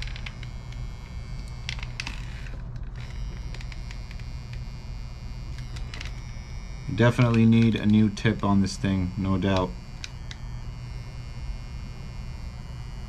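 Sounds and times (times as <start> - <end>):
soldering crackles: 0.0 - 13.0
soldering iron buzzing: 0.0 - 13.0.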